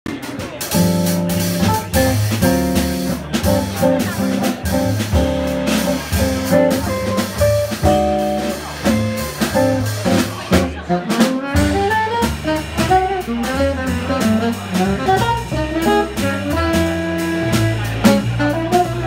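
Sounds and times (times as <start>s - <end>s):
bass guitar: 0.1s - 19.0s
drum kit: 0.1s - 19.0s.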